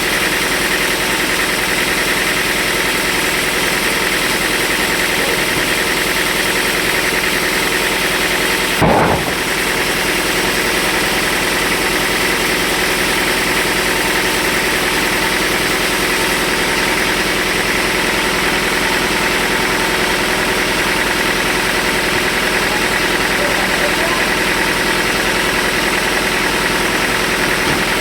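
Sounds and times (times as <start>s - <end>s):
sawmill machinery droning: 0.0s - 28.0s.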